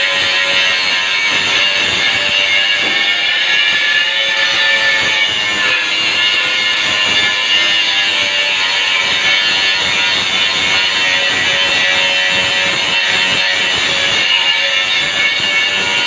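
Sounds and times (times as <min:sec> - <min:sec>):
angle grinder grinding steel: 0:00.0 - 0:16.0.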